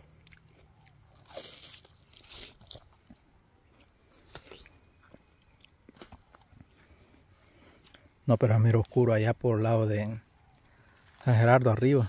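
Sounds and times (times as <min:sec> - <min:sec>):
crunching watermelon: 0:00.0 - 0:12.0.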